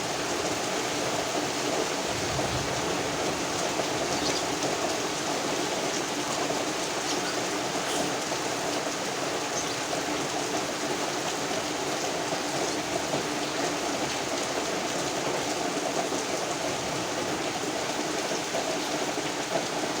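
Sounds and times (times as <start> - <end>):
rain falling: 0.0 - 20.0
wind: 0.0 - 20.0.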